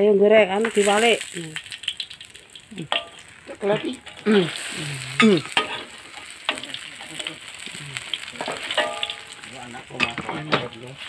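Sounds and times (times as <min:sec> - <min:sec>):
tempeh sizzling in hot oil: 0:00.0 - 0:11.0.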